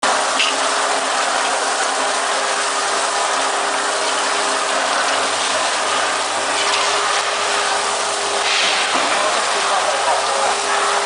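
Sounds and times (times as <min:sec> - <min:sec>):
bottle-washing machine running: 0:00.0 - 0:11.0.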